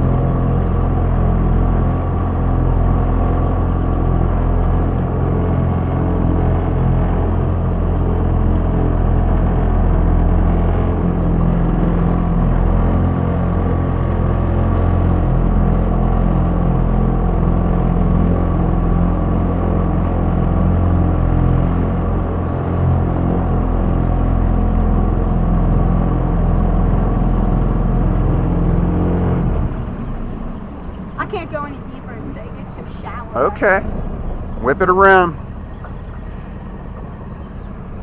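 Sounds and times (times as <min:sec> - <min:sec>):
outboard motor running: 0:00.0 - 0:38.0.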